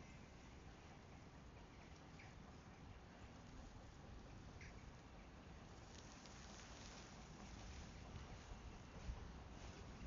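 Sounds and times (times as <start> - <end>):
faint outdoor forest ambience: 0.0 - 10.0.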